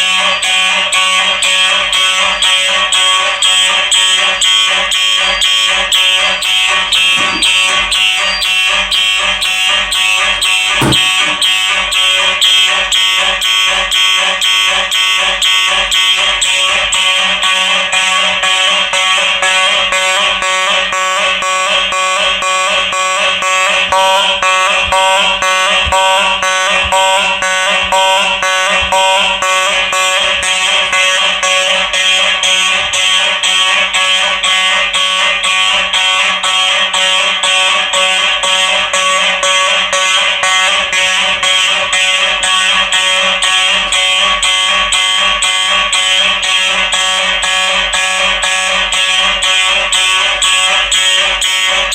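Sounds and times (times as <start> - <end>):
fire alarm horn pulsing: 0.0 - 51.9.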